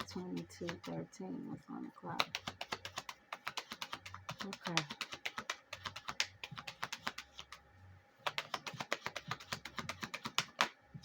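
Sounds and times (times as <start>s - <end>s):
cards being shuffled: 0.0s - 1.0s, 2.2s - 7.6s, 8.2s - 10.8s.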